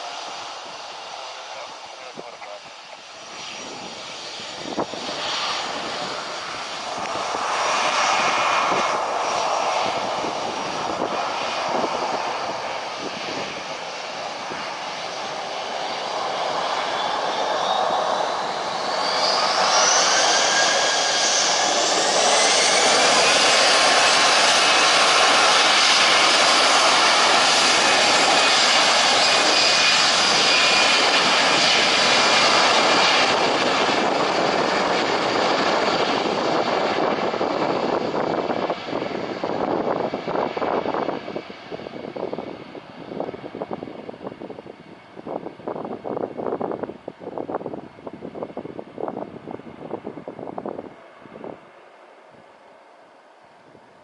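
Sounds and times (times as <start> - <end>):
jet engines spooling up: 0.0 - 49.2.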